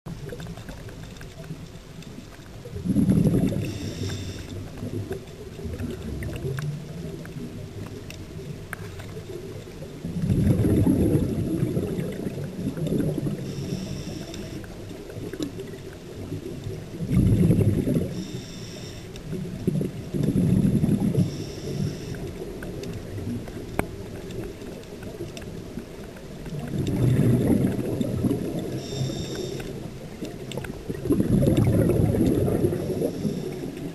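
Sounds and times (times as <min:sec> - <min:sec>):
exhaled bubbles gurgling underwater: 0:00.1 - 0:33.9.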